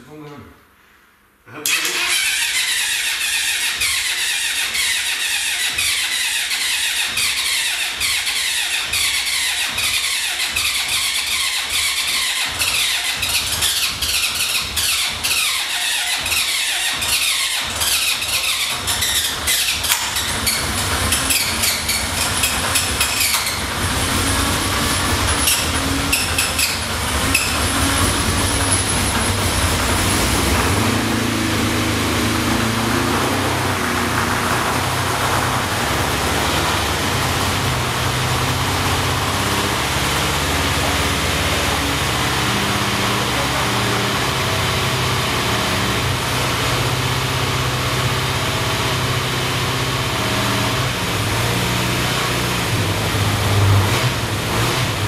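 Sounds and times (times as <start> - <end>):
motorcycle engine revving: 1.7 - 55.0.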